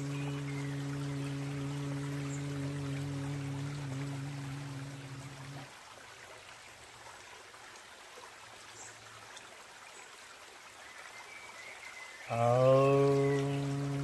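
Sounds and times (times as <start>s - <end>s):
creek flowing over stones: 0.0s - 14.0s.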